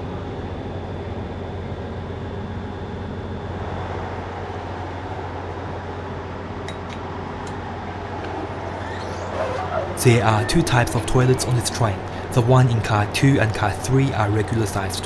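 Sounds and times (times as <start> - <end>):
train cabin hum: 0.0 - 15.0.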